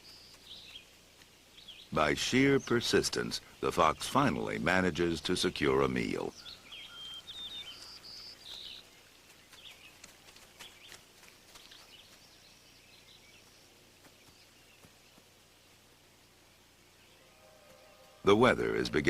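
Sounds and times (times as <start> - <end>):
faint bird chirps: 0.0 - 4.6, 5.7 - 19.0.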